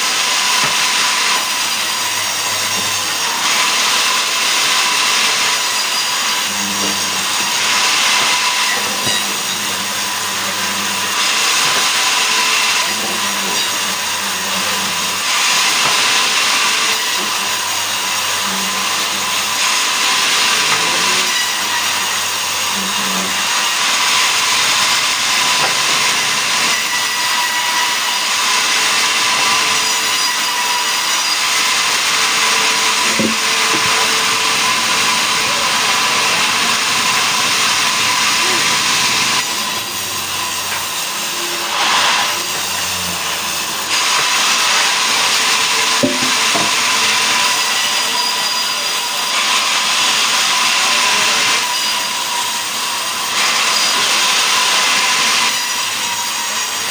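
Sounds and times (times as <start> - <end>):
sawmill machine whirring: 0.0 - 56.9.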